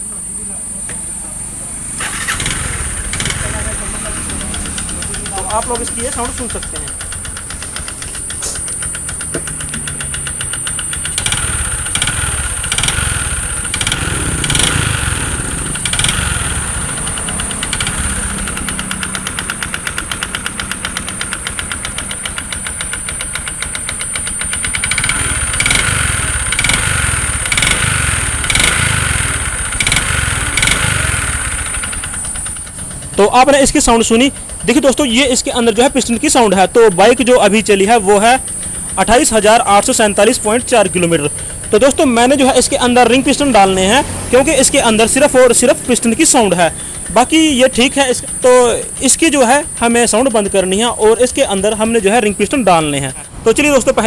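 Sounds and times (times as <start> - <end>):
motorcycle engine revving: 0.0 - 54.0
engine piston knock: 2.0 - 54.0.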